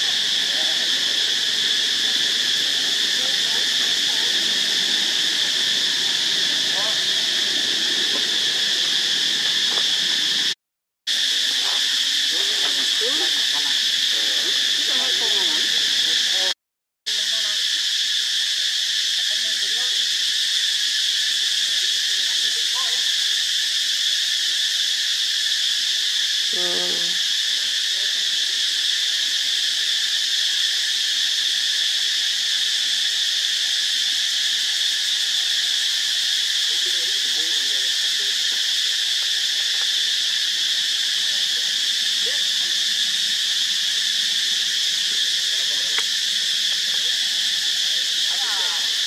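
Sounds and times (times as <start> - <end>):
insect chorus drone: 0.0 - 49.0.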